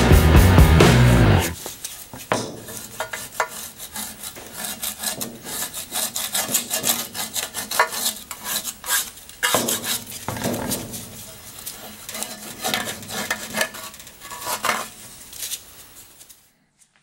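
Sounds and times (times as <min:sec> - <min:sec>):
heavy scrapes or knocks: 0:01.2 - 0:15.1
gritty scrubbing scrapes: 0:01.4 - 0:16.4.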